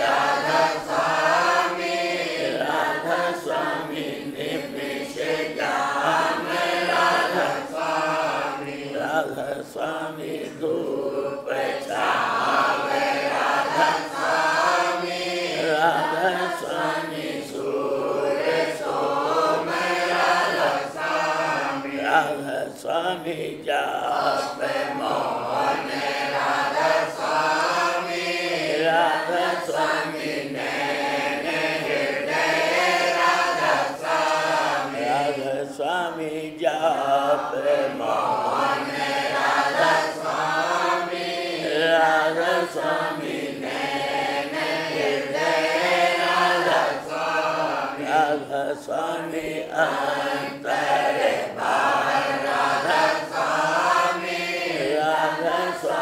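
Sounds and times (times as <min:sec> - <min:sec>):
voices chanting: 0:00.0 - 0:56.0.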